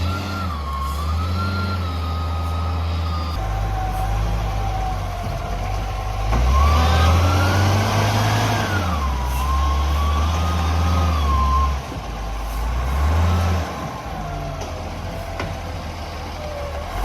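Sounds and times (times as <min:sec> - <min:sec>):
truck diesel engine revving: 0:00.0 - 0:17.0.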